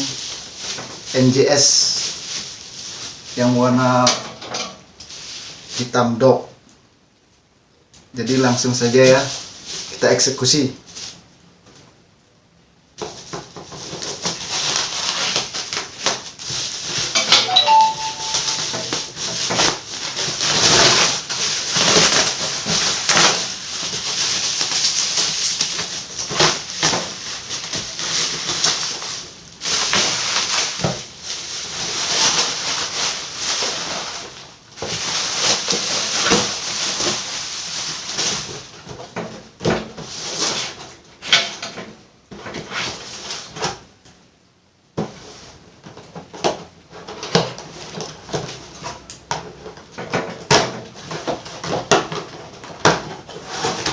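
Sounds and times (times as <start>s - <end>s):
cardboard and plastic rustling: 0.0s - 6.0s, 8.9s - 10.2s, 10.8s - 11.9s, 13.0s - 44.0s, 45.0s - 53.9s.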